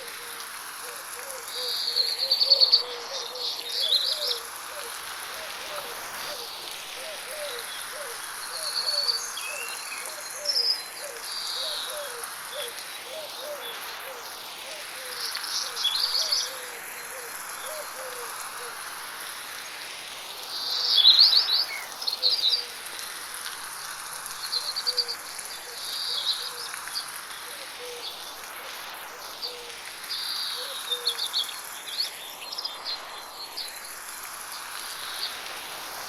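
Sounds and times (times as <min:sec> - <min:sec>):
insect drone: 0:00.0 - 0:36.0
light rain hissing: 0:00.0 - 0:36.0.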